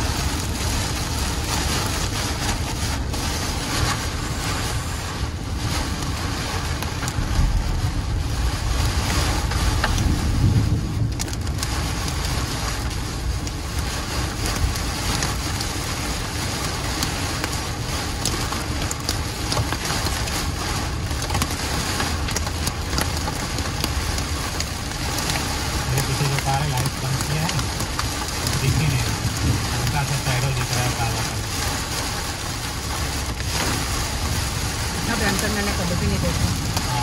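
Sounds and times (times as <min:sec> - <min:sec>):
deep rumble: 0:00.0 - 0:37.0
heavy rain on a car: 0:00.0 - 0:37.0
wind: 0:00.0 - 0:37.0.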